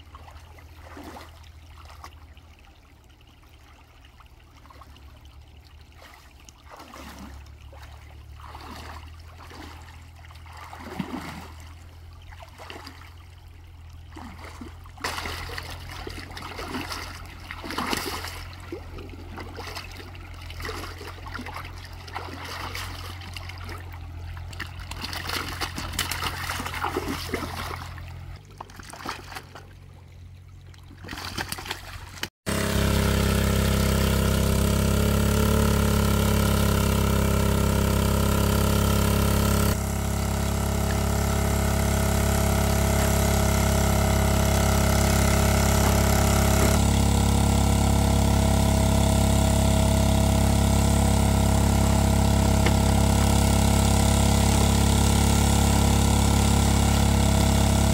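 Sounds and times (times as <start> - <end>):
water splashing and sloshing: 0.0 - 56.2
low engine hum: 0.0 - 57.9
water pump engine running: 0.0 - 57.9.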